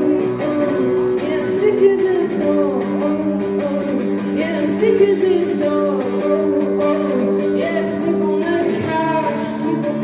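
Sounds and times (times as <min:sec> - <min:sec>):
guitar chords: 0:00.0 - 0:10.0
woman singing: 0:00.0 - 0:10.0.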